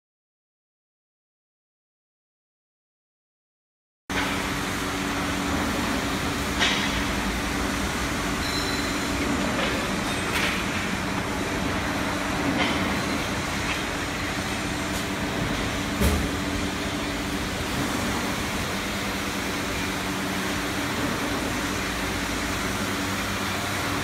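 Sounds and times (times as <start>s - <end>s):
industrial machinery hum: 4.1s - 24.0s.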